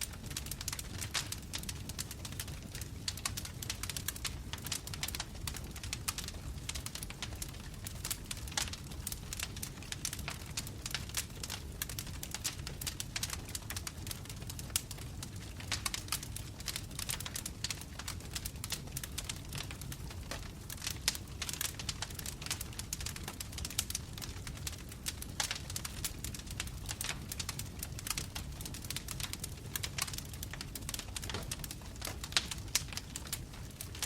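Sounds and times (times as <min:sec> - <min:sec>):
low rumble of burning logs: 0:00.0 - 0:34.0
wood fire crackling and popping: 0:00.0 - 0:34.0.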